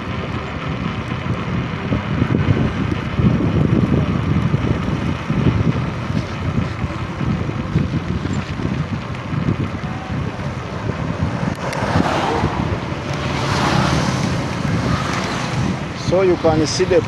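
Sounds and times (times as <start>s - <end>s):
road traffic noise: 0.0s - 17.0s
wind buffeting microphone: 0.0s - 17.0s.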